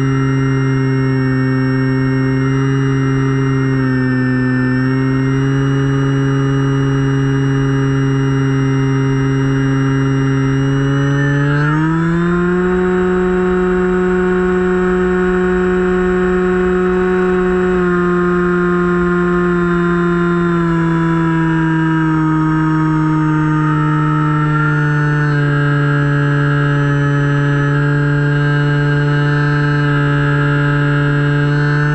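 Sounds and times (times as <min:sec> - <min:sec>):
electric motor and propeller humming: 0:00.0 - 0:31.9.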